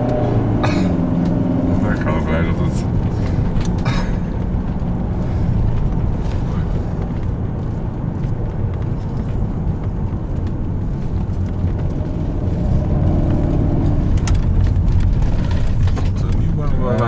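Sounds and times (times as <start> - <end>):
engine and road rumble: 0.0 - 17.0
light rattles and knocks: 0.0 - 17.0.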